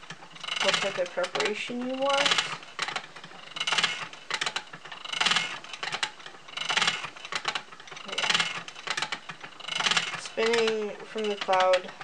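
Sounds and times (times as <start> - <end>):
spinning wheel whirring and clicking: 0.0 - 12.0.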